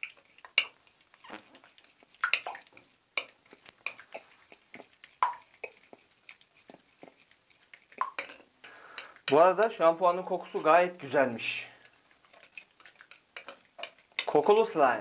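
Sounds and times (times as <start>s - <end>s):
slime stirring wet squelches: 0.0s - 15.0s.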